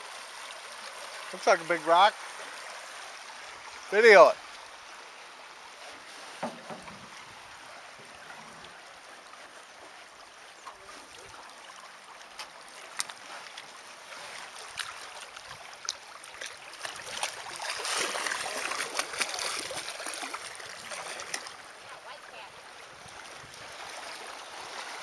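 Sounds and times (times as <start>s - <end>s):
river water rushing and gurgling: 0.0s - 25.0s.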